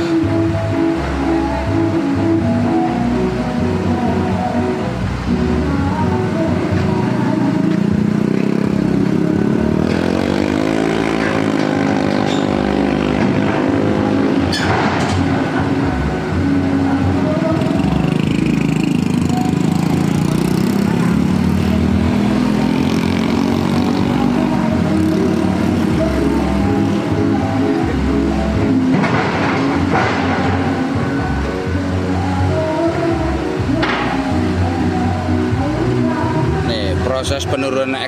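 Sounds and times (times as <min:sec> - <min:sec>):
truck engine revving: 0:00.0 - 0:38.0.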